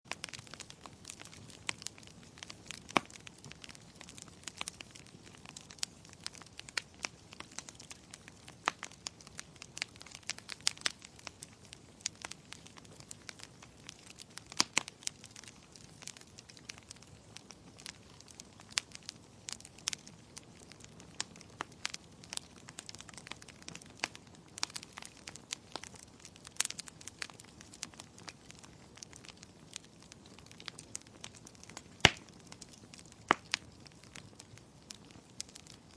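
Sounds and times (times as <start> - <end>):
wood fire crackling: 0.1 - 35.9.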